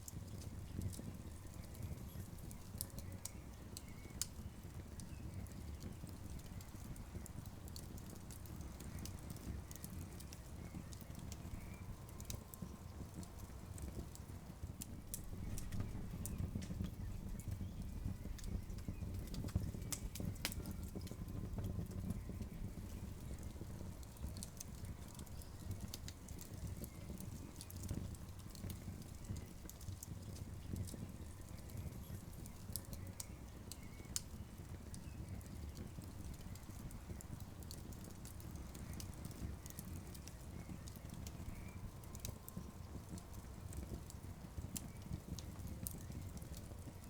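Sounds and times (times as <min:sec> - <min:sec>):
campfire crackling and popping: 0:00.0 - 0:47.0.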